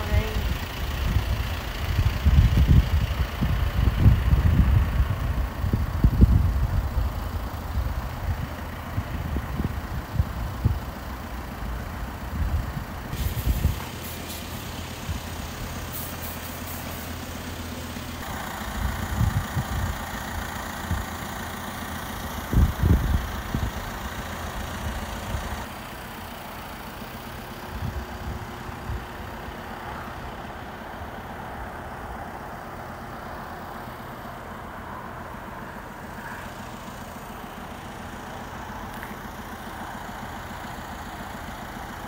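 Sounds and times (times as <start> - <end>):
diesel lorry engines idling: 0.0 - 42.0
low rumbles: 0.0 - 42.0.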